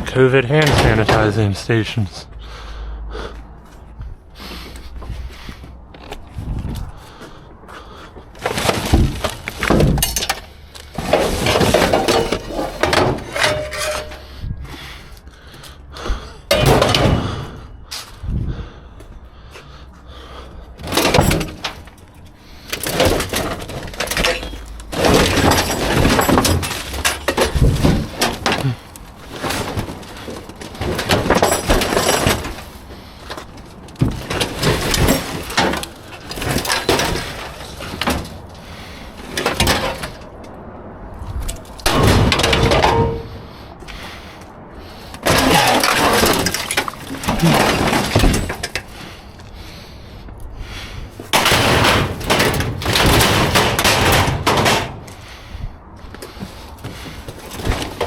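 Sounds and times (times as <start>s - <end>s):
scrap clattering and banging: 0.0s - 2.0s, 4.5s - 15.2s, 15.9s - 18.2s, 19.6s - 58.0s.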